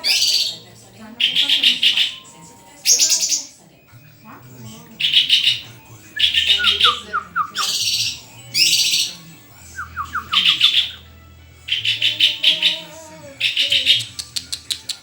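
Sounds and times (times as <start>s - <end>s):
songbird singing trills and whistles: 0.0s - 3.5s, 5.0s - 15.0s.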